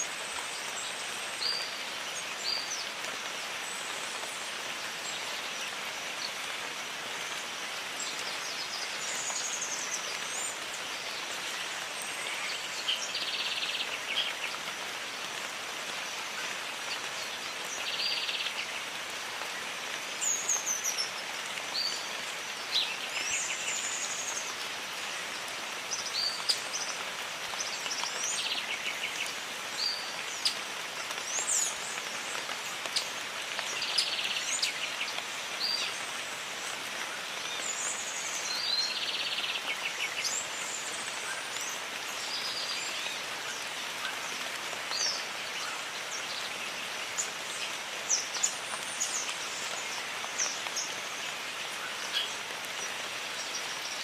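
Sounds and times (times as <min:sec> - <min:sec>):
rain falling on foliage: 0:00.0 - 0:54.0.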